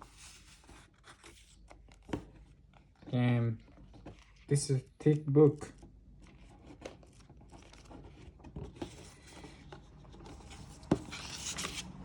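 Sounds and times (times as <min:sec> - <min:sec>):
paper pages rustling: 0:00.0 - 0:04.5, 0:05.7 - 0:12.0.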